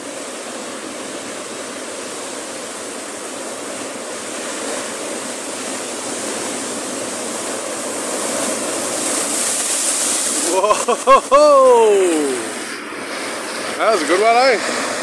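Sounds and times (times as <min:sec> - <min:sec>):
surf washing over rocks: 0:00.0 - 0:15.0
wave crashing against rocks: 0:00.0 - 0:15.0.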